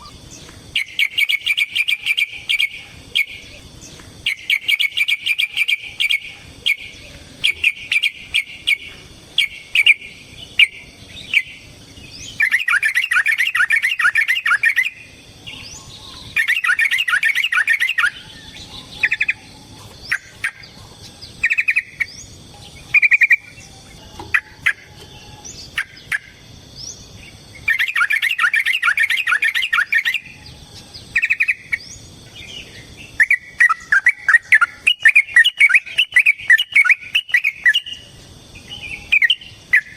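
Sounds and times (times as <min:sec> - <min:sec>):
bird singing chattering runs: 0:00.0 - 0:39.9.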